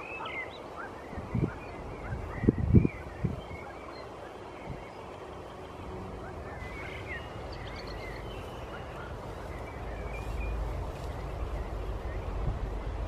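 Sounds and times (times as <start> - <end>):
small birds chirping: 0.0 - 13.0
wind rumble on microphone: 1.0 - 13.0.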